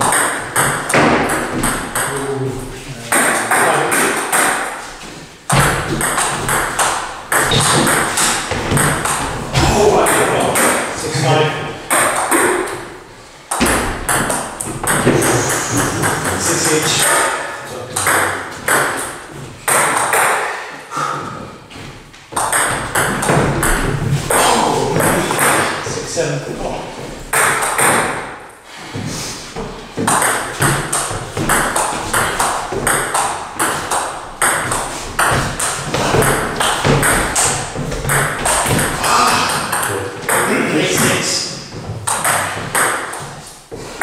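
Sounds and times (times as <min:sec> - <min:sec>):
table tennis ball hits: 0:00.0 - 0:02.2, 0:03.1 - 0:04.9, 0:05.5 - 0:11.0, 0:11.7 - 0:16.4, 0:18.0 - 0:20.5, 0:22.3 - 0:25.8, 0:27.3 - 0:28.4, 0:29.6 - 0:43.5.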